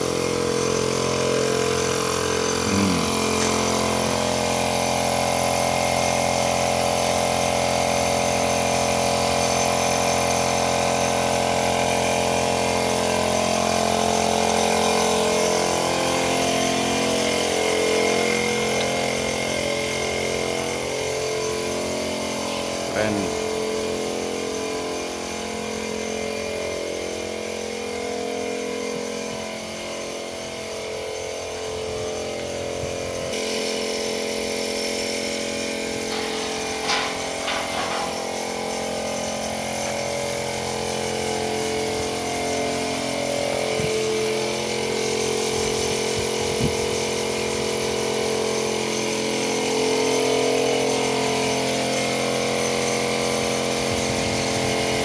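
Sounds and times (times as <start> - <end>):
motor running: 0.0 - 55.0.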